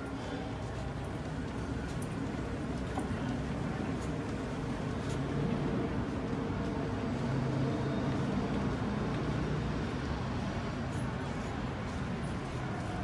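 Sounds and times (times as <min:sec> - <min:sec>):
traffic and idling engines hum: 0:00.0 - 0:13.0.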